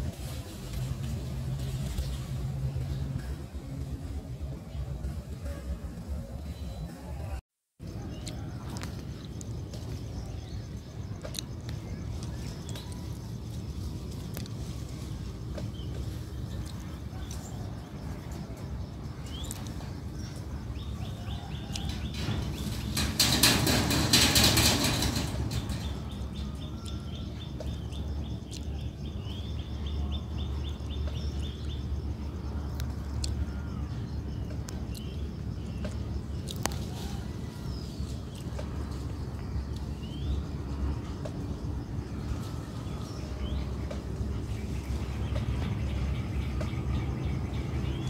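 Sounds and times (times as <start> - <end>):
steady low rumble: 0.0 - 48.0.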